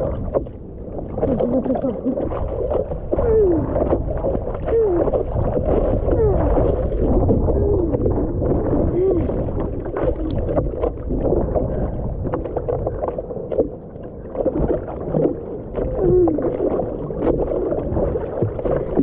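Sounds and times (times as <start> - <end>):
water sloshing against surfboard: 0.0 - 19.0.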